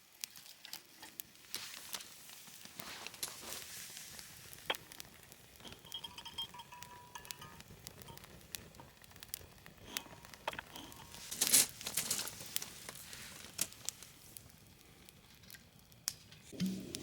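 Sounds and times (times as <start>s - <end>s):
crinkling and rustling: 0.0s - 14.6s.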